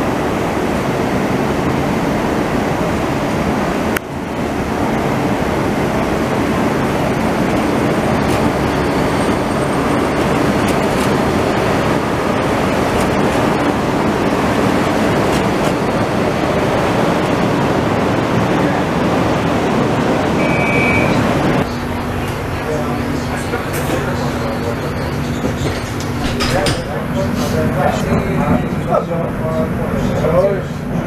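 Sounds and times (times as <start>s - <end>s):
tram rushing past: 0.0s - 31.0s.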